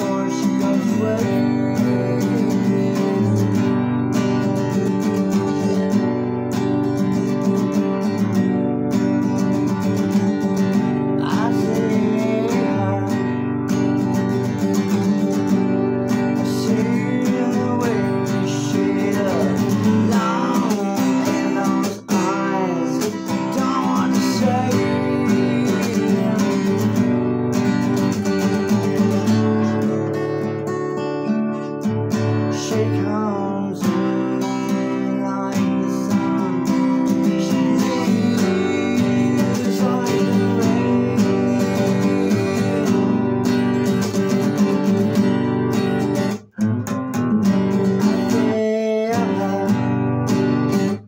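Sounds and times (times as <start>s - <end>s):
strummed acoustic guitar: 0.0s - 51.0s.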